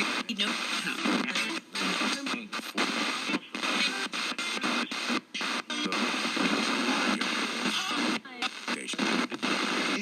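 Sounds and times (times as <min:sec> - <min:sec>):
radio static: 0:00.0 - 0:10.0
radio voices: 0:00.0 - 0:10.0
snatches of broadcast music: 0:00.0 - 0:10.0.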